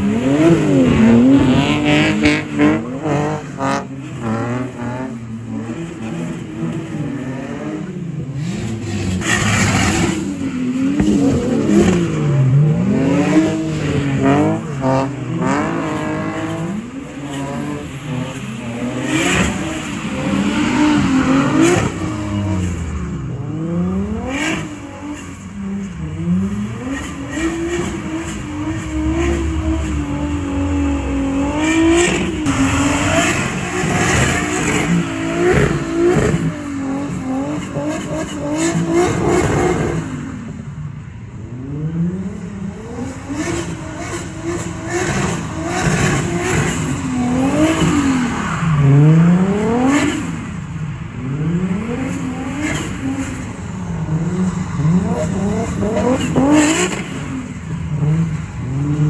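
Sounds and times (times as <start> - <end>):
car engine revving hard: 0.0 - 40.4, 41.7 - 50.5, 51.3 - 59.0.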